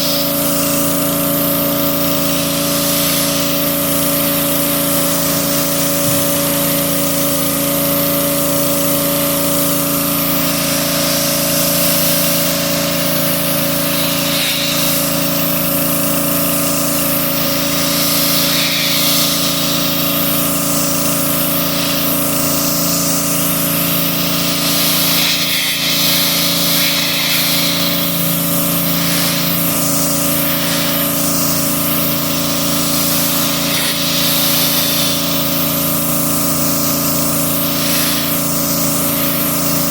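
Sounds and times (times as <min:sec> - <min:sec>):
pump motor hum: 0:00.0 - 0:39.9
water spraying: 0:00.0 - 0:39.9.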